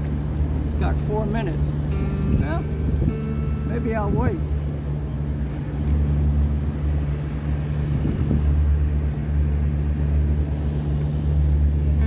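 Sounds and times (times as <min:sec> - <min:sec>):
boat motor rumbling: 0:00.0 - 0:12.0.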